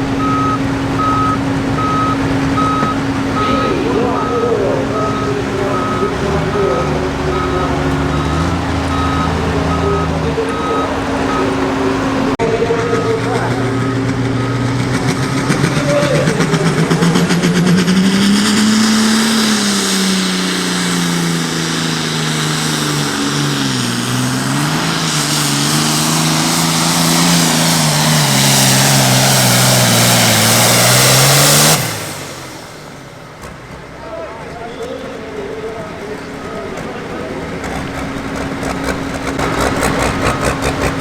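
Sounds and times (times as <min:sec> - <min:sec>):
diesel tractor engine at full throttle: 0:00.0 - 0:41.0.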